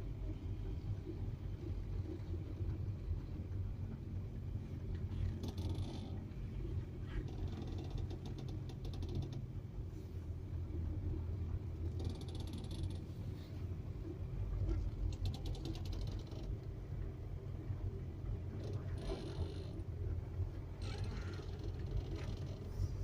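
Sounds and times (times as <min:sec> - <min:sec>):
low engine rumble: 0:00.0 - 0:23.0.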